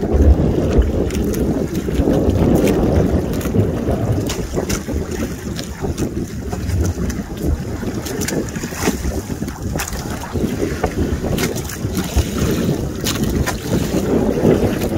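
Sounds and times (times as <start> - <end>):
small splashes: 0.0 - 14.9
water lapping: 0.0 - 14.9
wind buffeting microphone: 0.0 - 14.9.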